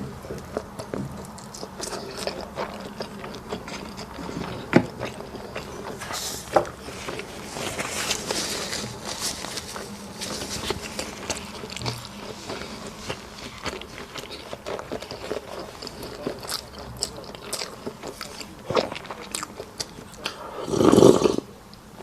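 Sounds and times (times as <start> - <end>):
person chewing food: 0.0 - 21.8.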